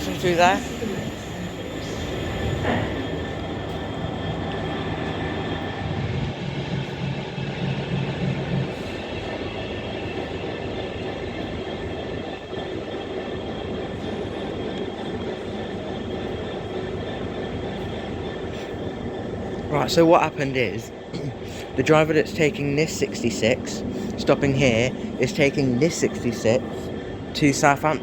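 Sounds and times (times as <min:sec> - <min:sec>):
low hum: 0:00.0 - 0:28.0
train wheels rushing on rail: 0:00.0 - 0:28.0.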